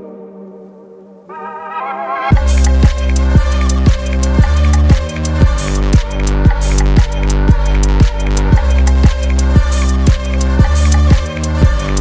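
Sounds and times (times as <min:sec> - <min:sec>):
rising synth line: 0:01.3 - 0:12.0
heavy bass and kick drum: 0:02.3 - 0:12.0.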